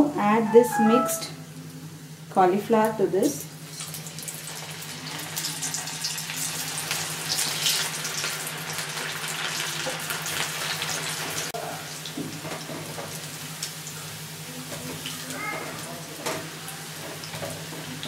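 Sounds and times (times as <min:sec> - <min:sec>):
food deep-frying in hot oil: 0:02.3 - 0:18.0.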